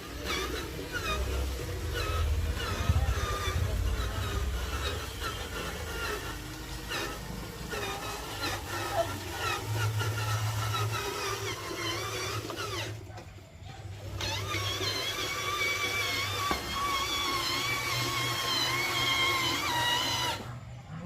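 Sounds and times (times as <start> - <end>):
toy electric motor whining: 0.0 - 21.0.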